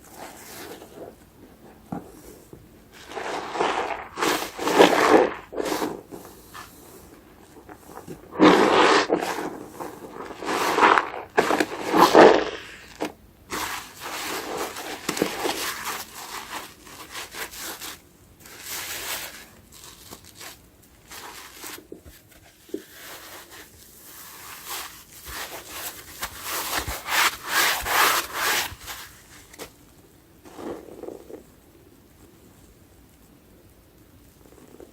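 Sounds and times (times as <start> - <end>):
soapy sponge squishing: 0.0 - 29.7.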